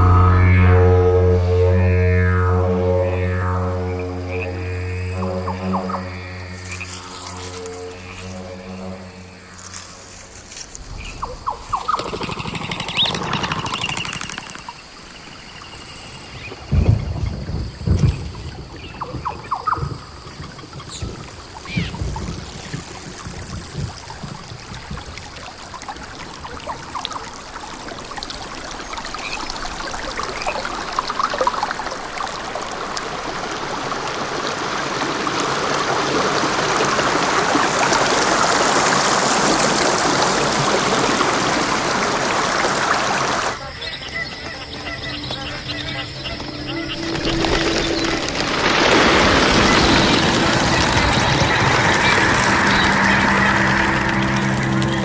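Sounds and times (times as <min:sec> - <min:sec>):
running water rushing: 0:01.3 - 0:55.0.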